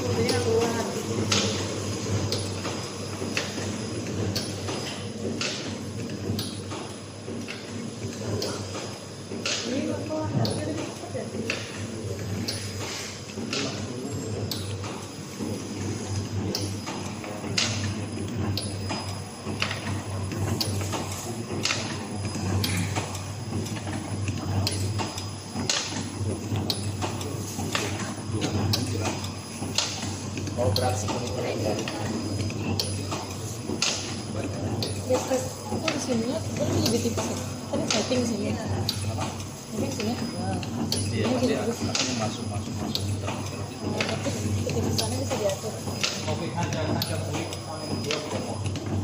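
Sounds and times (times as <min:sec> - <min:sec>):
machine humming: 0:00.0 - 0:49.0.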